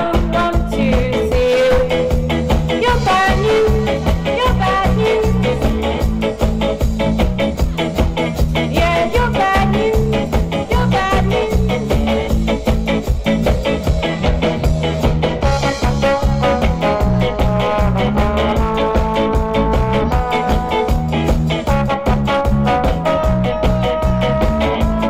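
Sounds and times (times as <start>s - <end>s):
live ska band playing: 0.0s - 25.0s.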